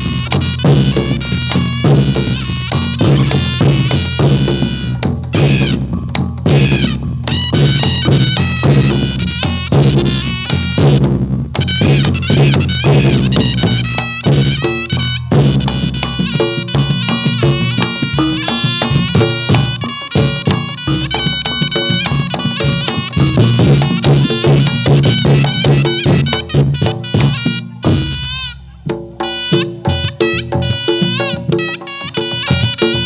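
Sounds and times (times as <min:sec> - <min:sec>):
shrill reed melody: 0:00.0 - 0:11.0, 0:11.6 - 0:33.0
rapid drumming: 0:00.0 - 0:33.0
struck percussion: 0:00.0 - 0:33.0.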